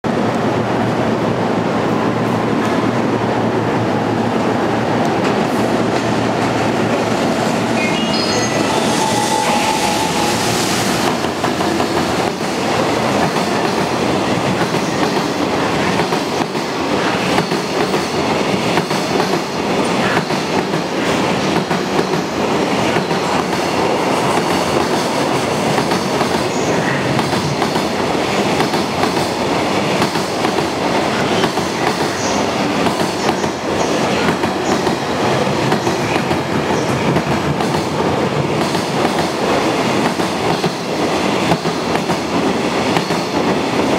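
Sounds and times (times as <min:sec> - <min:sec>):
loud rumble of train wheels: 0:00.0 - 0:43.9.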